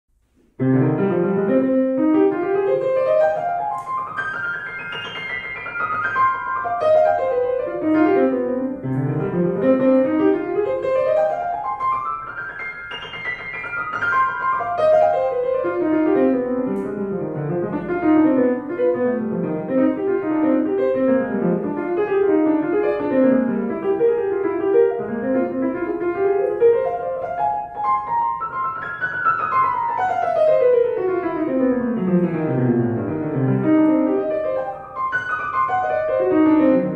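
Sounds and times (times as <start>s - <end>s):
piano playing fast runs: 0.6s - 36.9s.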